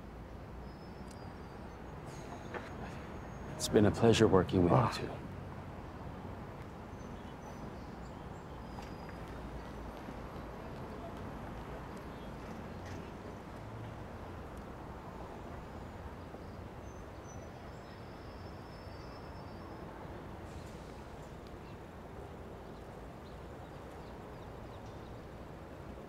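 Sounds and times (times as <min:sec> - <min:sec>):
distant traffic hum: 0:00.0 - 0:26.0.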